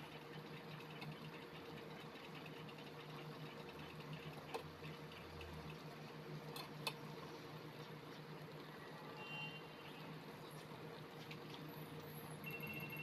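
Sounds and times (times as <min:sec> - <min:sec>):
fish simmering in broth: 0:00.0 - 0:12.4.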